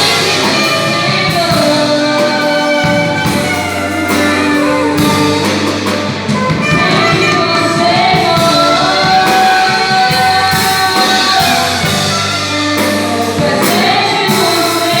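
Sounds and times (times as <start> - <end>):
band playing: 0.0 - 15.0
bass: 0.0 - 15.0
drums: 0.0 - 15.0.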